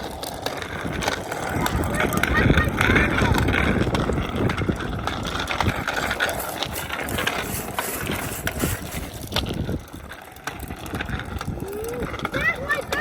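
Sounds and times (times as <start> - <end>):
bicycle clicks and rattles: 0.0 - 13.0
bicycle tyres rolling on pavement: 0.0 - 13.0.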